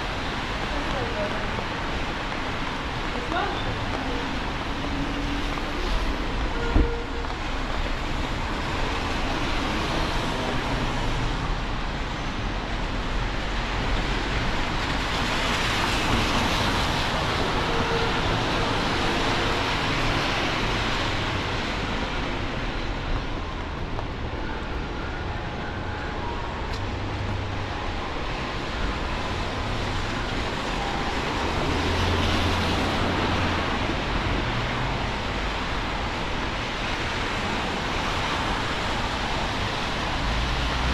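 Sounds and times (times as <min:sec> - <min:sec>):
tyres hissing on wet road: 0:00.0 - 0:23.4, 0:26.8 - 0:40.9.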